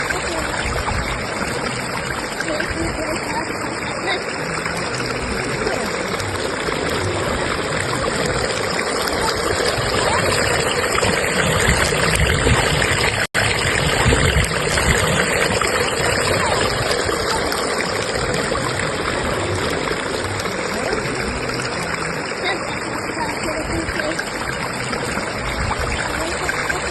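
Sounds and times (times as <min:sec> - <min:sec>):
river water rushing over rocks: 0:00.0 - 0:26.9.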